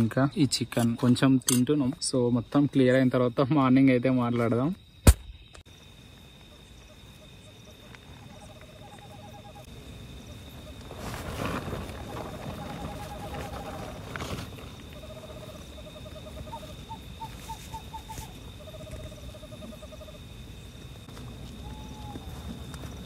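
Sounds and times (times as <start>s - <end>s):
high insect drone: 0.1s - 23.0s.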